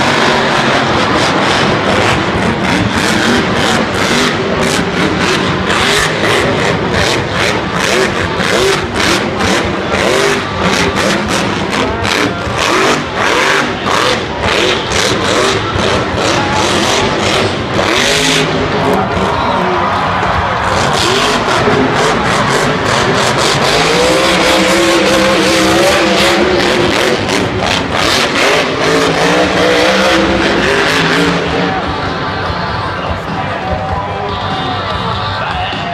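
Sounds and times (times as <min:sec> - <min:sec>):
arena crowd: 0:00.0 - 0:35.9
monster truck engine revving: 0:00.0 - 0:35.9.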